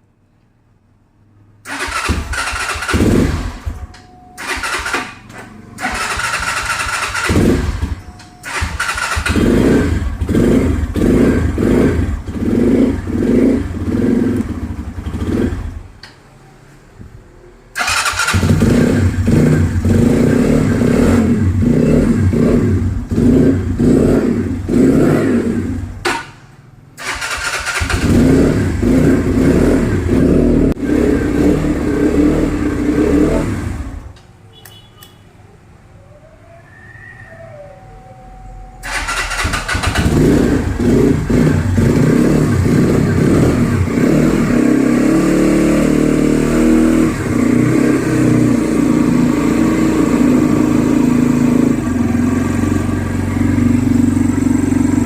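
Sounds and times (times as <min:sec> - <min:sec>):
motorcycle engine revving: 0:01.6 - 0:03.8, 0:04.4 - 0:16.0, 0:17.7 - 0:26.4, 0:27.0 - 0:34.1, 0:38.8 - 0:55.0.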